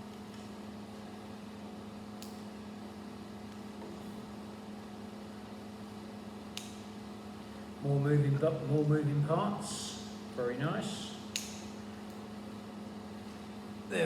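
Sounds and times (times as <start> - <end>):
low hum of room tone: 0.0 - 14.0.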